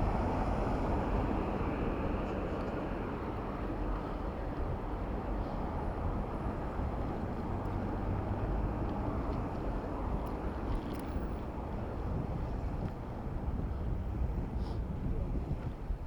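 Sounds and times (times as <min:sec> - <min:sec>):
passing traffic: 0:00.0 - 0:14.9.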